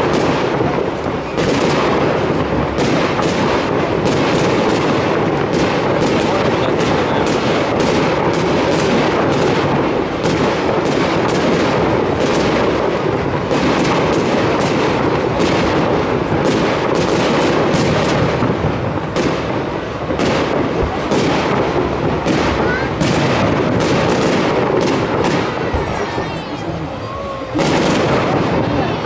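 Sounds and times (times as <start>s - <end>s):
firework shells bursting: 0.0s - 26.2s, 27.5s - 29.0s.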